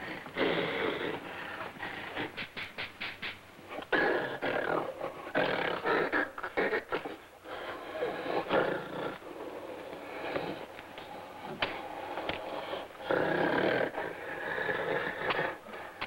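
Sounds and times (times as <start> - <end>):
gorilla growling: 0.0 - 16.0.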